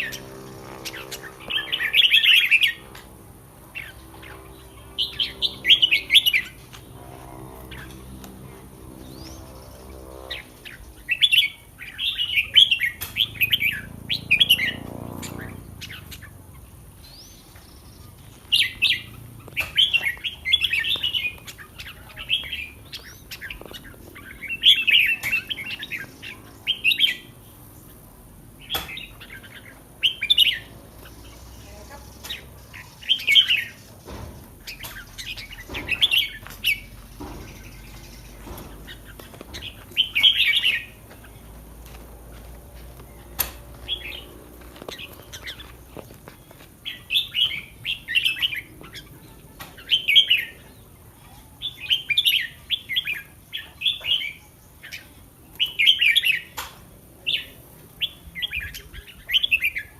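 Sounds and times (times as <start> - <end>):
bird warbling song: 0.0 - 56.6.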